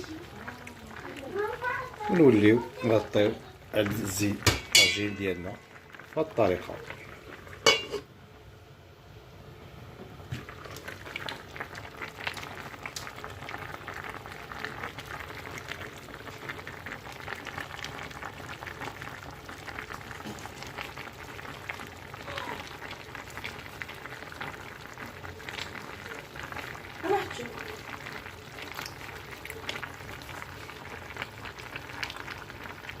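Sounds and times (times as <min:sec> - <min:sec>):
stew bubbling in sauce: 0:00.0 - 0:08.5, 0:09.6 - 0:33.0.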